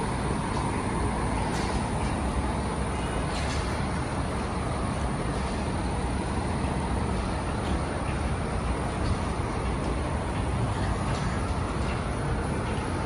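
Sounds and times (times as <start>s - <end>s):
city street traffic: 0.0s - 13.0s
trucks idling: 0.0s - 13.0s.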